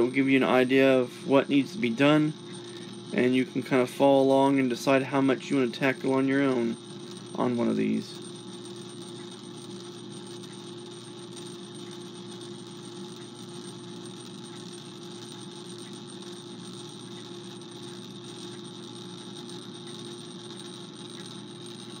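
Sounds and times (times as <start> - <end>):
faint ticking: 0.0 - 22.0
phonograph motor whirring hum: 0.0 - 22.0.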